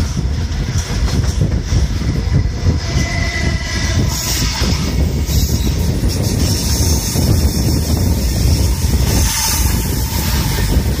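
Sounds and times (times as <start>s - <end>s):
train rumbling along rails: 0.0s - 11.0s
wind rushing over microphone: 0.0s - 11.0s.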